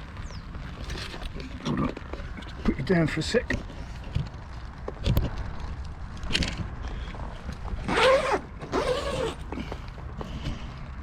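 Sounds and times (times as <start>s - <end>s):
creaking scraping sounds: 0.6s - 10.9s.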